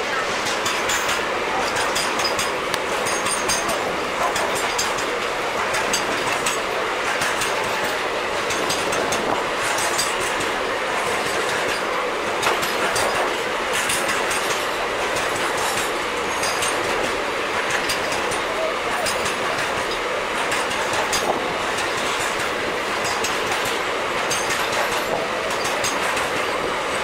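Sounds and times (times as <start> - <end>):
wheels rushing on rail: 0.0 - 27.0
wheels clacking over rail joints: 0.1 - 27.0.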